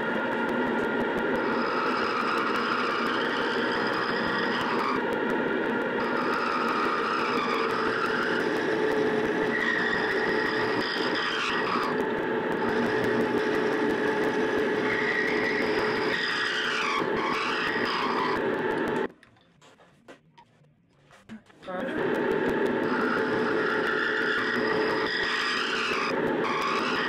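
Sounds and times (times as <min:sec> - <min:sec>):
milling machine cutting metal: 0:00.0 - 0:19.1, 0:21.8 - 0:27.0.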